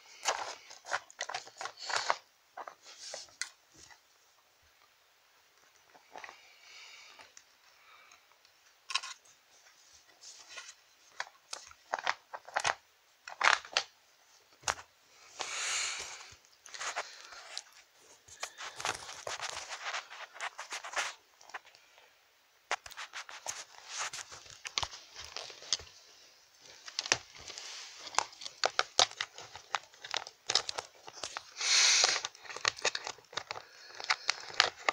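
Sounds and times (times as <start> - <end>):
fabric and plastic rustling: 0.0 - 4.1, 8.9 - 22.0, 22.7 - 34.9.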